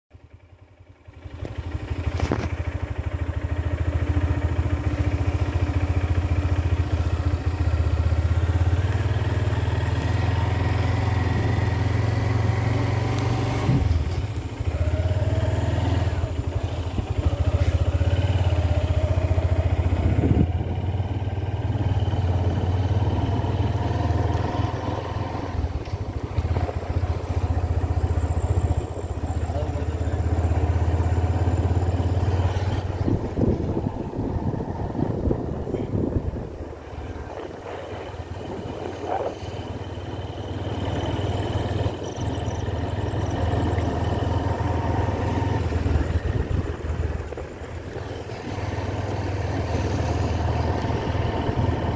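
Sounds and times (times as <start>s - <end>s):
motorcycle engine running: 0.1s - 51.9s.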